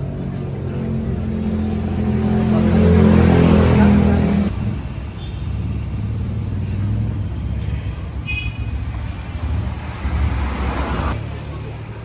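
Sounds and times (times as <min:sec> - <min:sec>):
motorbike engine idling: 0:00.0 - 0:10.5.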